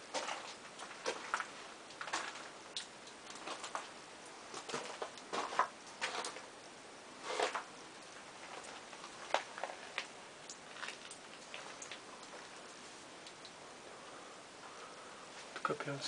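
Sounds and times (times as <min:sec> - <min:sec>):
water dripping: 0:00.0 - 0:06.8, 0:07.5 - 0:15.9.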